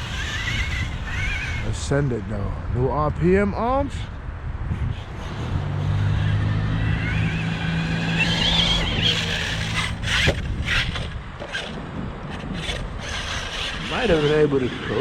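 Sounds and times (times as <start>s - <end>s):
electric motor whining: 0.0s - 2.0s, 4.9s - 15.0s.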